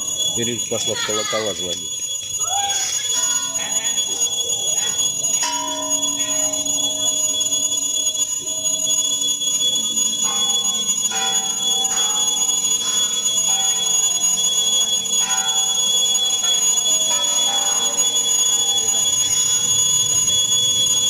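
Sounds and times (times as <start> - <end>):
steady high-pitched tone: 0.0 - 21.0
temple bells ringing: 0.0 - 21.0.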